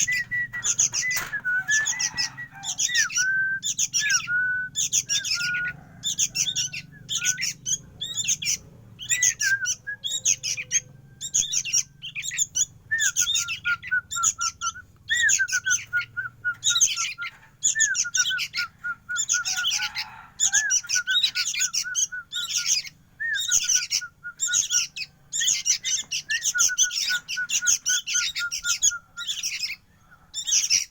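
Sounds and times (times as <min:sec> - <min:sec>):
young bird chirping shrilly: 0:00.0 - 0:30.9.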